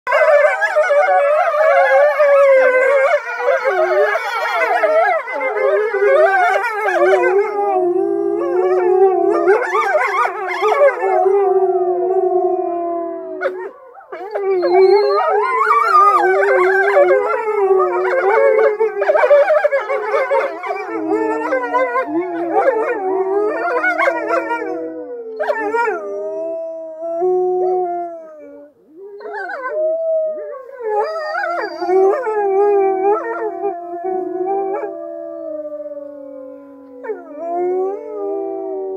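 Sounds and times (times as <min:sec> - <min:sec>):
wolves howling in chorus: 0:00.1 - 0:38.9.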